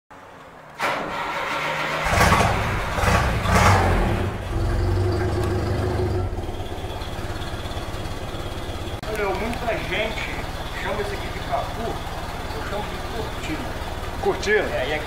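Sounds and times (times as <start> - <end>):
car engine revving and idling: 2.0 - 15.0.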